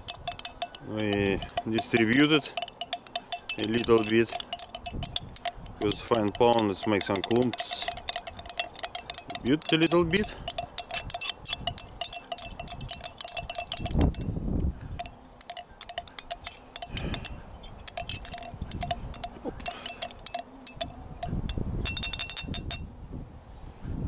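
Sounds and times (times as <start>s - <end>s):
spoon clinking in glass jar: 0.0s - 22.9s
low rumbles: 0.0s - 23.1s.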